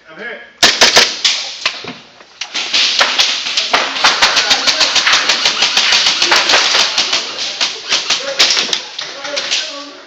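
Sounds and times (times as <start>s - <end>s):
airsoft guns firing: 0.6s - 9.7s
pellets striking surfaces: 0.6s - 9.9s.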